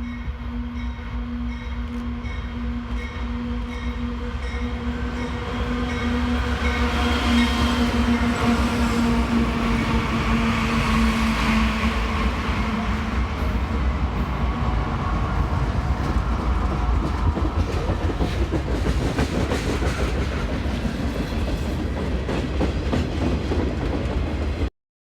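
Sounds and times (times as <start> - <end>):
train low rumble: 0.0 - 24.7.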